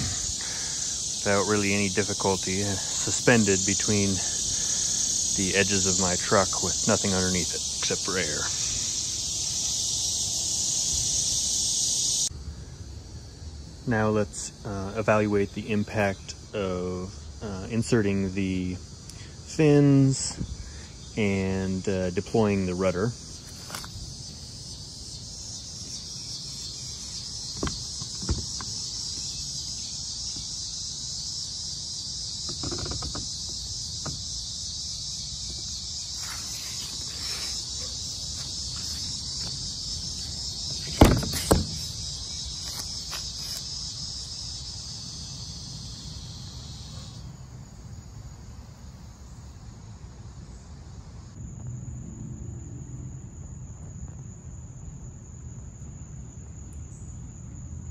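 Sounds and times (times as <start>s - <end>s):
crickets chirring: 0.0s - 57.9s.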